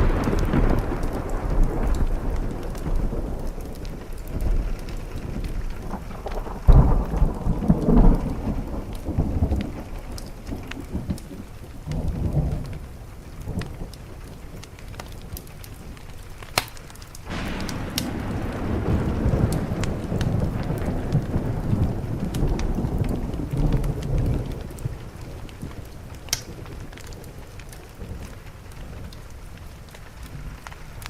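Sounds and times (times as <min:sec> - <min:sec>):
steady rain: 0:00.0 - 0:31.0
thunder rumbling: 0:00.0 - 0:31.0
wood fire crackling: 0:00.0 - 0:31.0.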